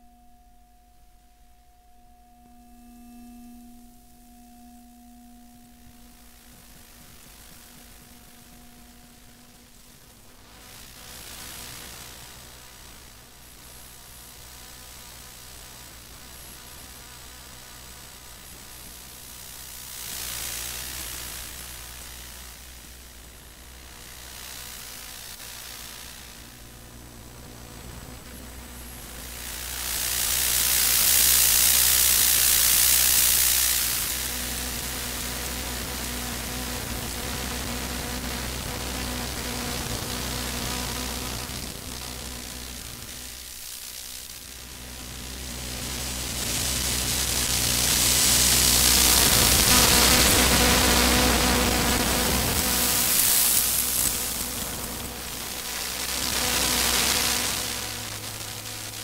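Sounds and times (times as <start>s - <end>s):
electromagnetic interference hum: 0.0s - 59.0s
interference hiss: 0.0s - 59.0s.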